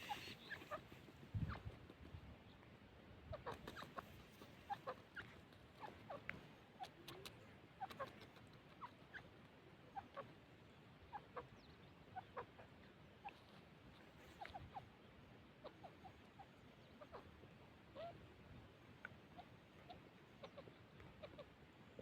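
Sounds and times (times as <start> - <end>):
bird chirps and clucks: 0.0 - 22.0.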